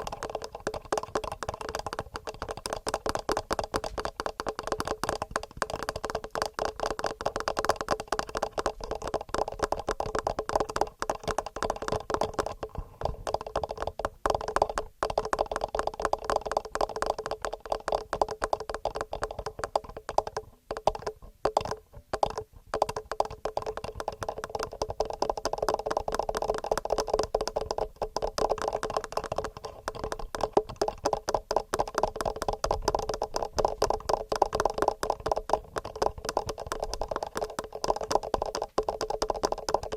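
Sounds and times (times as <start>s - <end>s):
fingernail tapping on recorder: 0.0s - 39.9s.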